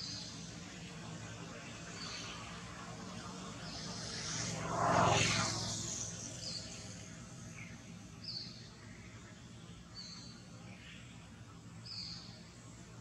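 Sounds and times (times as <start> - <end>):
faint outdoor ambient noise: 0.0 - 13.0.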